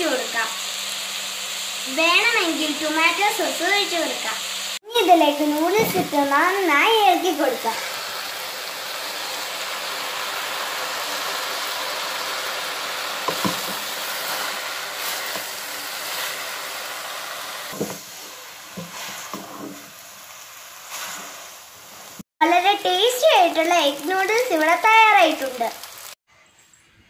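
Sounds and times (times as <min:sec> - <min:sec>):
noodles sizzling in a pot: 0:00.0 - 0:26.2.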